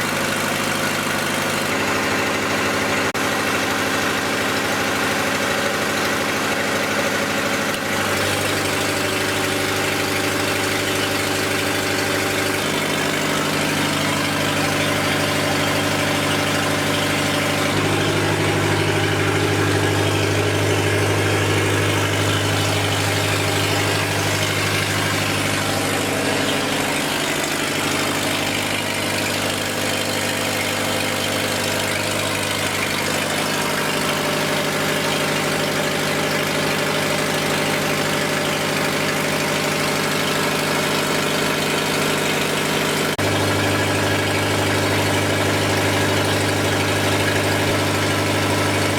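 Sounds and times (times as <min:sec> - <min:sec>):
diesel generator running: 0:00.0 - 0:48.9.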